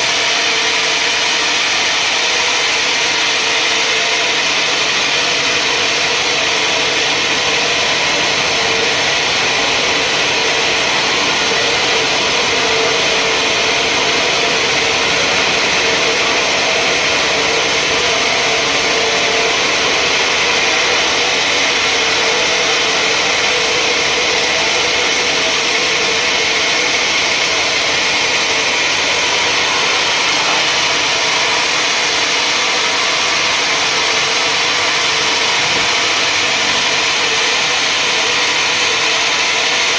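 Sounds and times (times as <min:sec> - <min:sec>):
sawmill saw machinery running: 0:00.0 - 0:39.9.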